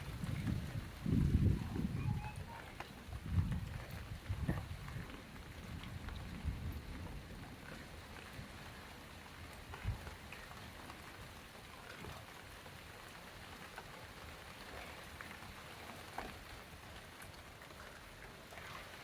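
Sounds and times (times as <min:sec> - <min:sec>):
faint rain falling: 0:00.0 - 0:19.0.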